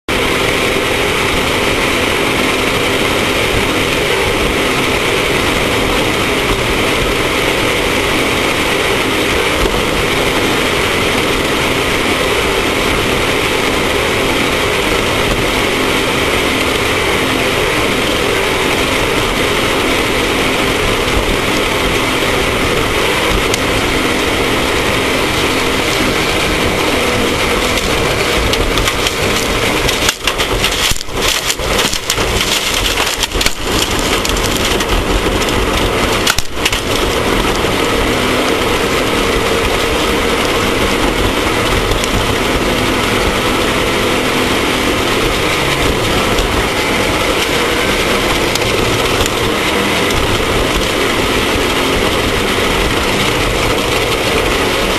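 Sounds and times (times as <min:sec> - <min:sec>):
race vehicle engine running: 0:00.0 - 0:54.9
loud continuous rush of noise: 0:00.1 - 0:54.9.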